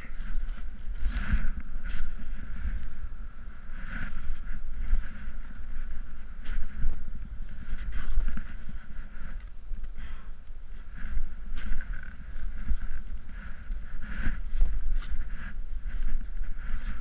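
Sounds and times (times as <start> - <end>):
footsteps crunching in snow: 0.0 - 17.0
wind buffeting microphone: 0.0 - 17.0.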